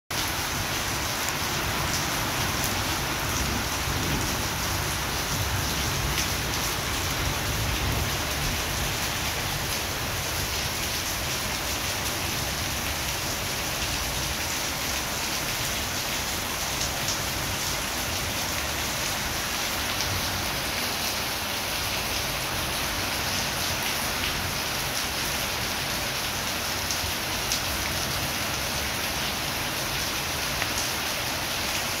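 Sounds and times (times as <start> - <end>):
heavy rain on paving and grass: 0.1 - 32.0.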